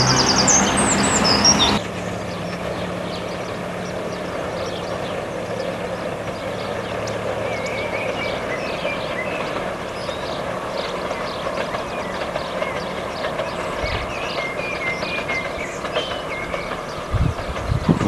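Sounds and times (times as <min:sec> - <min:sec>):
miniature train running on track: 0:00.0 - 0:18.0.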